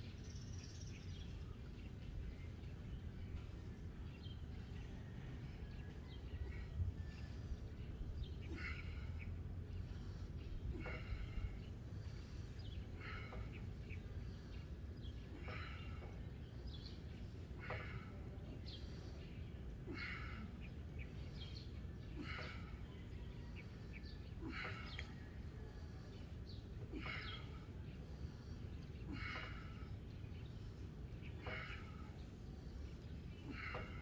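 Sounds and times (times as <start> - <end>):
faint bird chirps: 0.0 - 34.0
man breathing forcefully: 5.9 - 22.9, 23.5 - 34.0.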